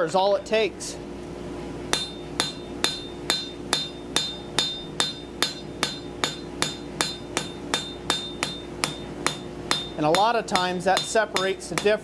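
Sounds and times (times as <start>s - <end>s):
hammer striking steel on anvil: 1.9s - 12.0s.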